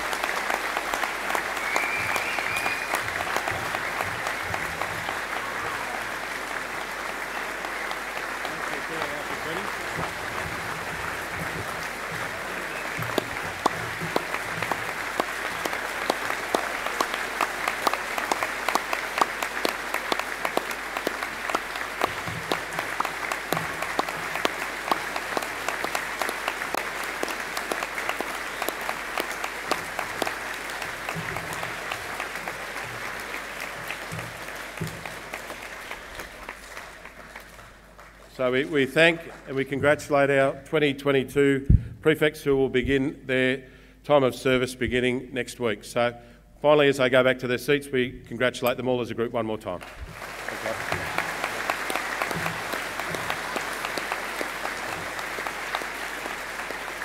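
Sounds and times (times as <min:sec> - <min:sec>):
audience applauding: 0:00.0 - 0:39.9, 0:49.8 - 0:57.0.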